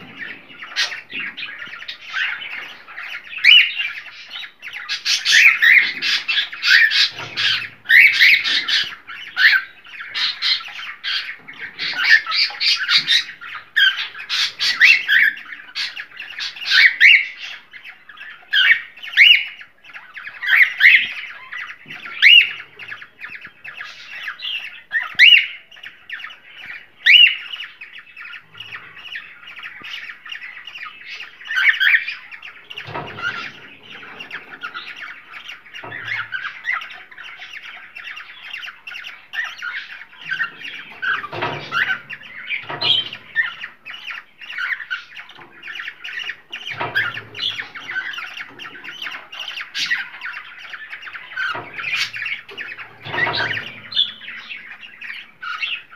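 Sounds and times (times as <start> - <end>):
cockatiels chattering and chirping: 0.0 - 55.9.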